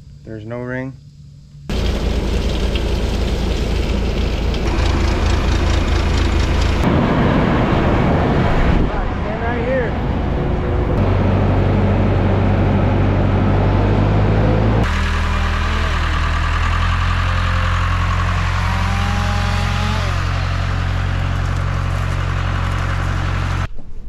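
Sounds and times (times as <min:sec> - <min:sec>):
faint engine whines: 0:01.0 - 0:23.7
tractor engine running: 0:01.7 - 0:07.4, 0:10.1 - 0:23.7.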